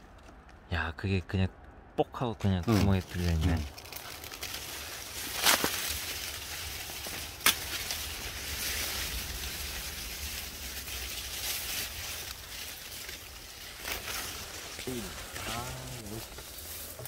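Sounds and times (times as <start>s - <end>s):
corn leaves rustling: 2.5s - 17.0s.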